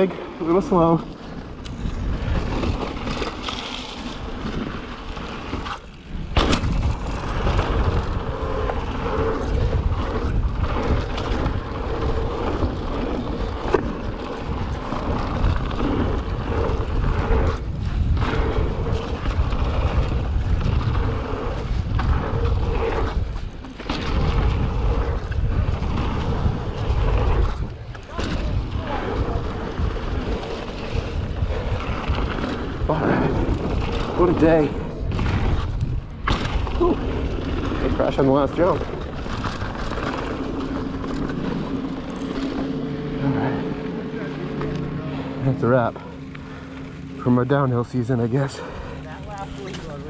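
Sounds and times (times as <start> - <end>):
bike rattling over bumps: 0.0 - 50.0
bike tyre noise: 0.0 - 50.0
wind noise on microphone: 1.4 - 43.2.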